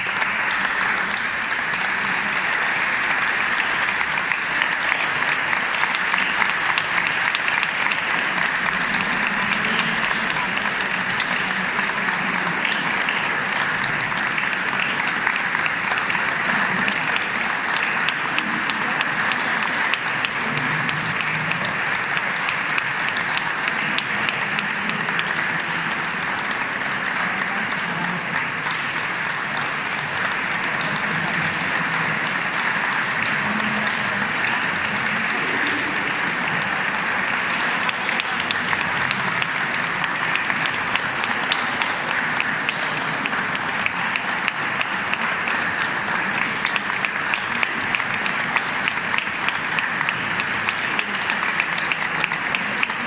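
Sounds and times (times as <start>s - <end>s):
audience applauding: 0.0s - 53.0s.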